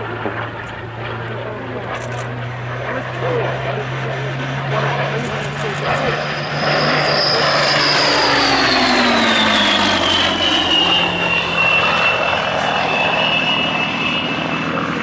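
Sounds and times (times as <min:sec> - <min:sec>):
propeller plane flying past: 0:00.0 - 0:15.0.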